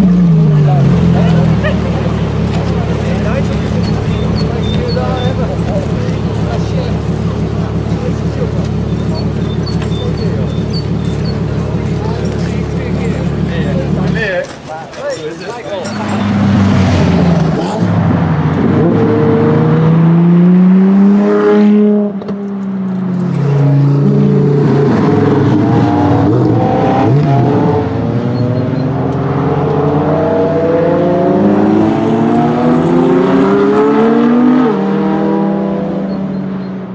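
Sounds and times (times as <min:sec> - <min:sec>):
sports car engine accelerating: 0:00.0 - 0:14.6, 0:15.8 - 0:36.9.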